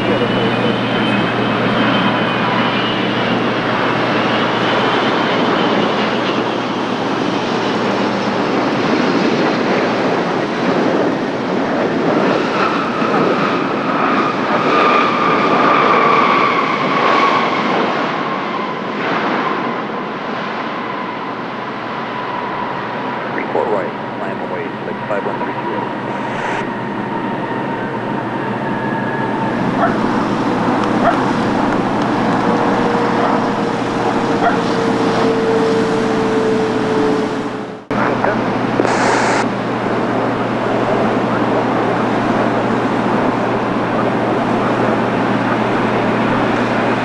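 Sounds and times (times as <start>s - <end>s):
jet engines whining: 0.0s - 47.0s.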